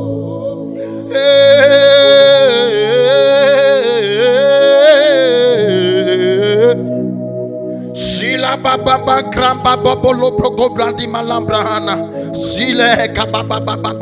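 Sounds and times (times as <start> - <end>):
held accompaniment chords: 0.0 - 14.0
person singing wordless melody: 0.0 - 14.0.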